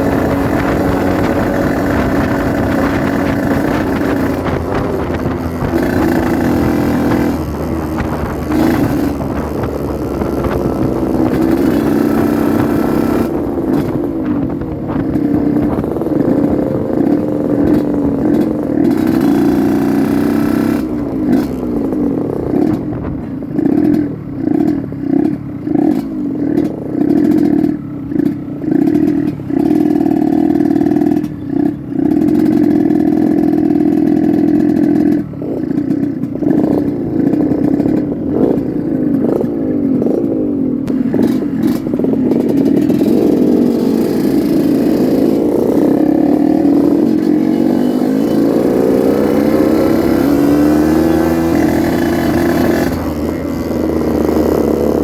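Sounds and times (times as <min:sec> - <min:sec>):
two-stroke motorcycle engine: 0:00.0 - 0:55.0.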